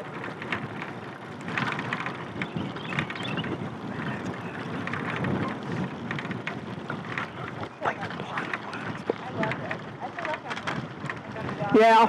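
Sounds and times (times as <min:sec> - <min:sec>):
small clicks and rattles: 0:00.0 - 0:11.8
tyres rolling on pavement: 0:00.0 - 0:12.0
wind on microphone: 0:00.0 - 0:12.0.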